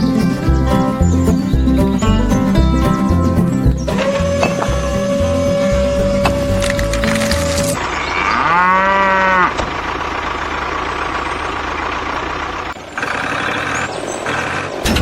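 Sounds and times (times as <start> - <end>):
vehicle engine running: 0.0 - 8.2, 9.0 - 15.0.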